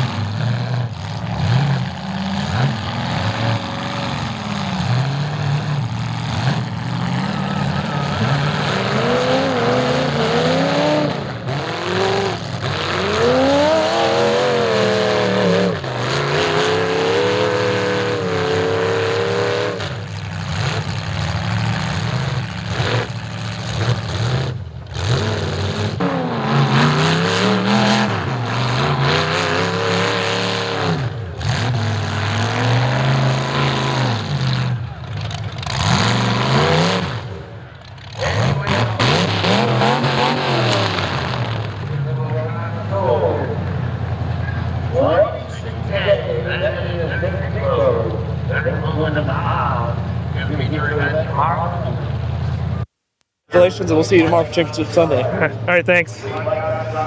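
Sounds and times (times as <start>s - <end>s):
car engines revving: 0.0s - 52.9s, 53.5s - 57.0s.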